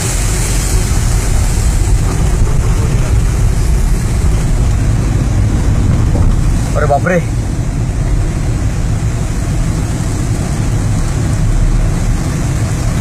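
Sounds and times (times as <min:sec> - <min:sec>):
heavy water rushing onto vehicle: 0:00.0 - 0:13.0.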